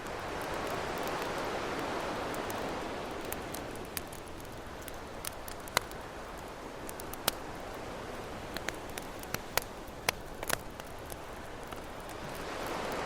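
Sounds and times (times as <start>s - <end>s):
campfire crackling and popping: 0.0s - 13.0s
ocean waves: 0.0s - 13.0s.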